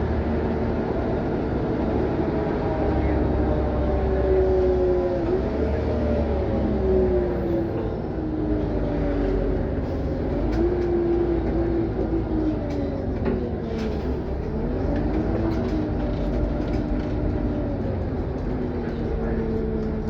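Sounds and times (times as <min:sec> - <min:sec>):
bus engine whine: 0:00.0 - 0:20.0
road rumble: 0:00.0 - 0:20.0.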